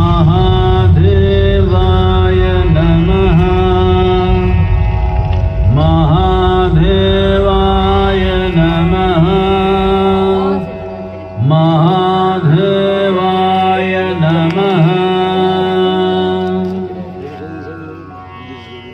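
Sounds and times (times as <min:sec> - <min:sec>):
devotional chant singing: 0:00.0 - 0:18.9
steady low drone: 0:00.0 - 0:18.9.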